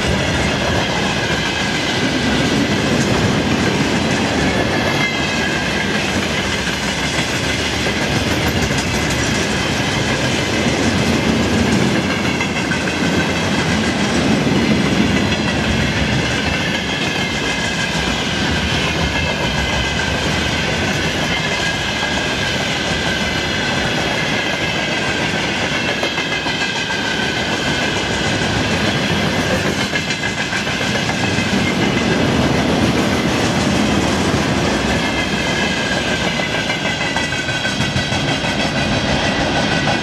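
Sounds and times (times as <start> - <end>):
clickety-clack over rail joints: 0.0 - 40.0
train wheels rumbling on rails: 0.0 - 40.0.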